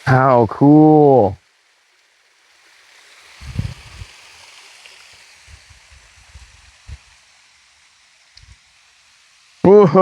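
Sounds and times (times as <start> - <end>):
small waterfall splashing: 0.0 - 10.0.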